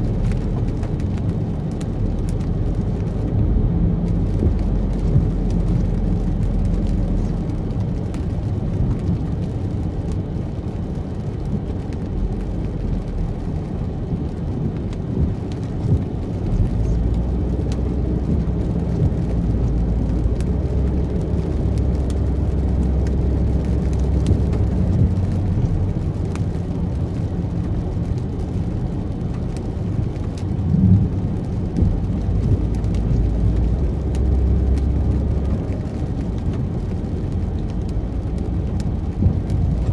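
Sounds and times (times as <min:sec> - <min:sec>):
car driving rumble: 0:00.0 - 0:39.9
rain ticking: 0:00.0 - 0:39.9.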